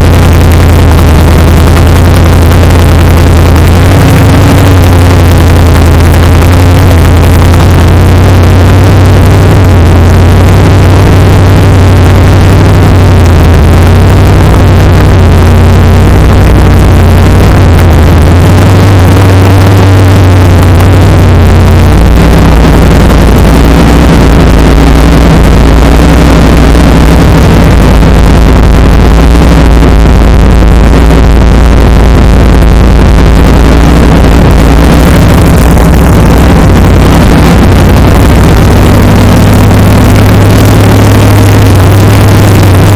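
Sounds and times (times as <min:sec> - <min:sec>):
engine idling loudly: 0:00.0 - 0:42.9.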